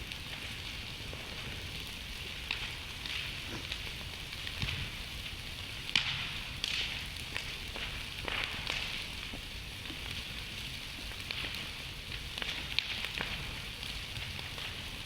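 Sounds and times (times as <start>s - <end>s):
campfire hissing: 0.0s - 15.0s
wood crackling and popping: 0.0s - 15.0s.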